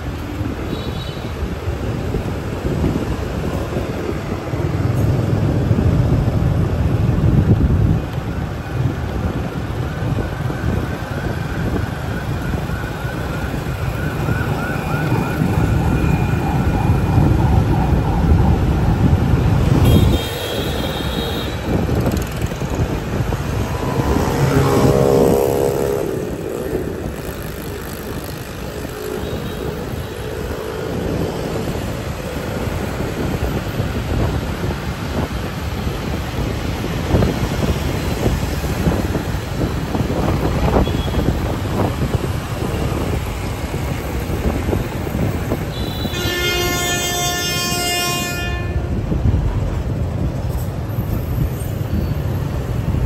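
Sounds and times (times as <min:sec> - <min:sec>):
traffic and engine rumble: 0:00.0 - 0:53.0
wind: 0:00.0 - 0:53.0.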